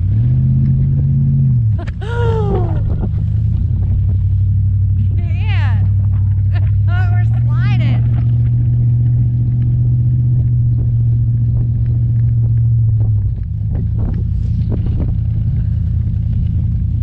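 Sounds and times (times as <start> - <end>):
pickup truck engine drone: 0.0 - 17.0.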